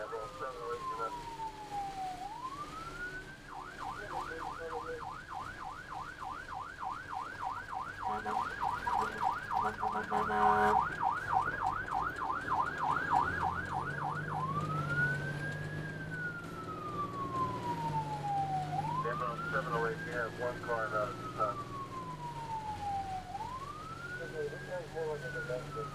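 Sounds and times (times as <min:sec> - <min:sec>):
ambulance siren: 0:00.0 - 0:25.9.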